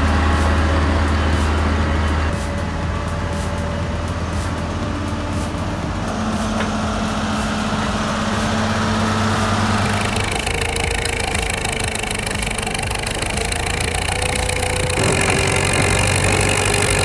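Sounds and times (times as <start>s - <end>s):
heavy engine humming: 0.0s - 17.0s
steady higher tone: 0.0s - 17.0s.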